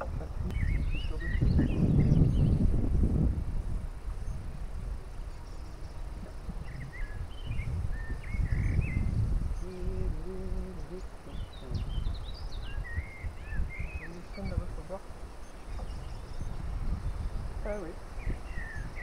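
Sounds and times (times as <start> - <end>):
steady low rumble: 0.0 - 18.8
songbirds chirping: 0.0 - 19.0.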